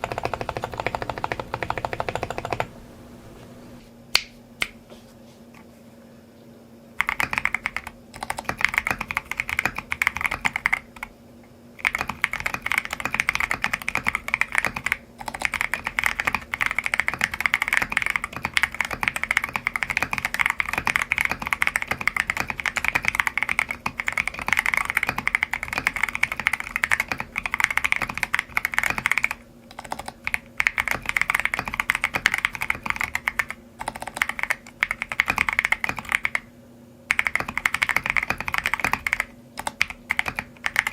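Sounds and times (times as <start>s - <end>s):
mechanical keyboard typing: 0.0s - 2.7s, 7.0s - 11.1s, 11.8s - 36.5s, 37.1s - 40.9s.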